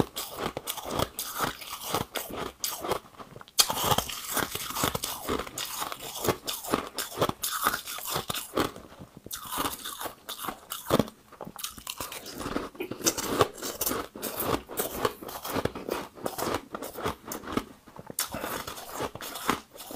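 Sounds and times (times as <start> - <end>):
ice crunching and chewing: 0.0 - 19.9.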